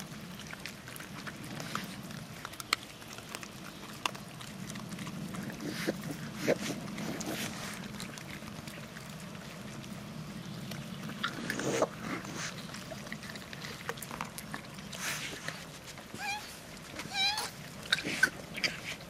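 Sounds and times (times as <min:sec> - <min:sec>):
raccoons chewing and scuffling: 0:00.0 - 0:19.0
rustle: 0:00.0 - 0:19.0
steady low hum: 0:00.0 - 0:19.0.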